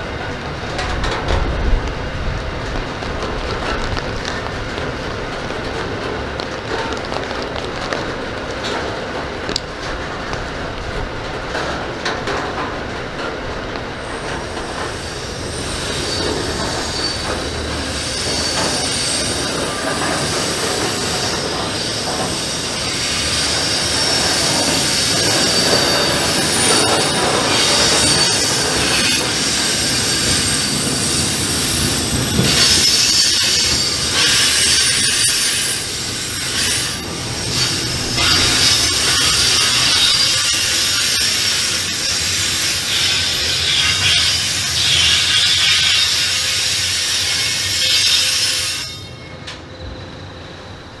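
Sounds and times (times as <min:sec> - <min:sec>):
steel wheels squealing on rails: 0:00.0 - 0:51.0
train rumble: 0:00.0 - 0:51.0.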